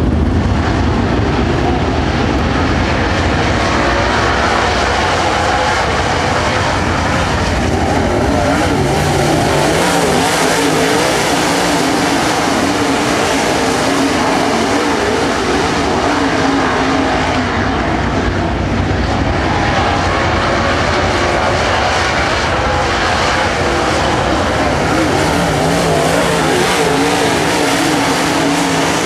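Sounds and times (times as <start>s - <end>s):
race car engines droning: 0.0s - 29.0s.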